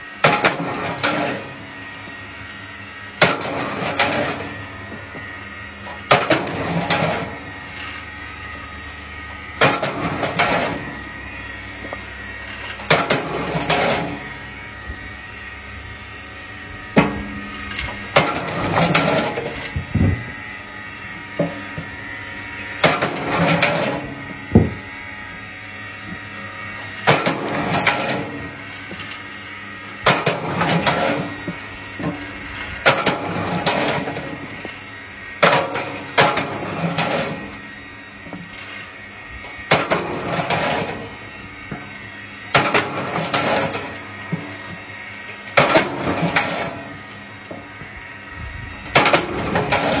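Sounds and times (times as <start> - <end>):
log splitter running hum: 0.0 - 50.0.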